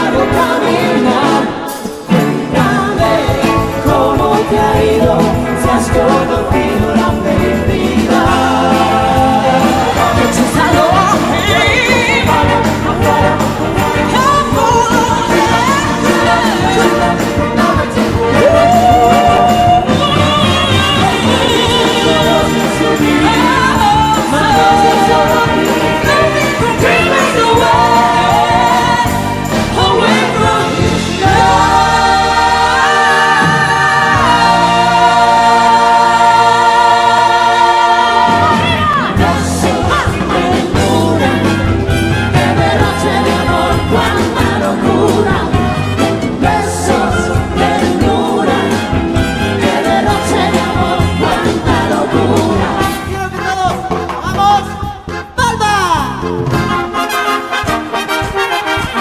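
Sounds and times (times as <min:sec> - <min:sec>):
women singing in harmony: 0:00.0 - 0:53.1
live band: 0:00.0 - 0:59.0.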